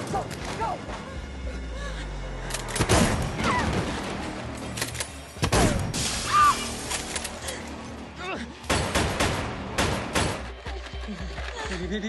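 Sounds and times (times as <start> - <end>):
tense score music: 0.0 - 12.0.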